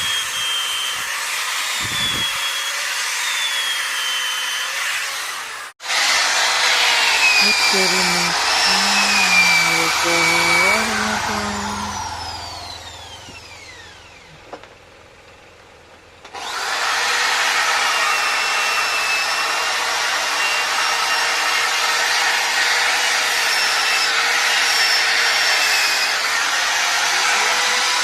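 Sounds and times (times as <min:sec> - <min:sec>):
power tool cutting wood: 0:00.0 - 0:14.7, 0:16.2 - 0:28.0.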